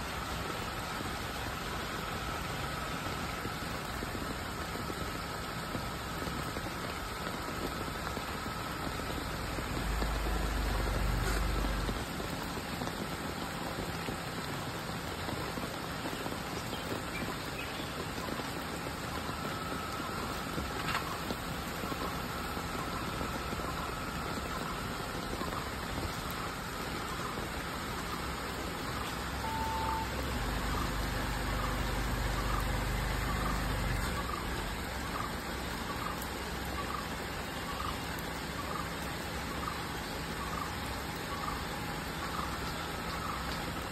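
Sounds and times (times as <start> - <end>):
car engine running: 0.0 - 43.9
steady hiss: 0.0 - 43.9.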